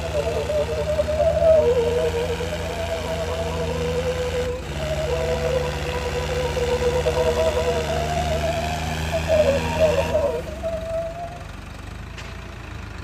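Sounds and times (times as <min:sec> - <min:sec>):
tractor diesel engines under load: 0:00.0 - 0:13.0.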